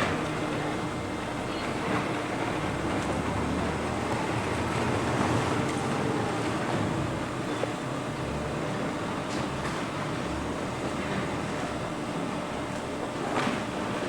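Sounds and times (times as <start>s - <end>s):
baler machinery running: 0.0s - 14.0s.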